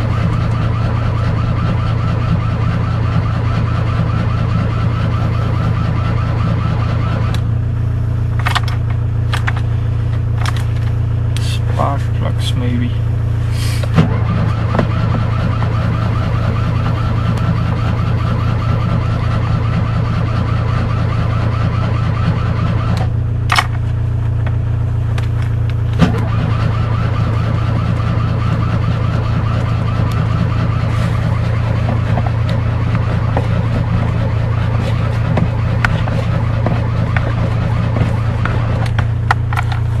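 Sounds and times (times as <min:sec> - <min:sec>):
car engine running: 0:00.0 - 0:40.0.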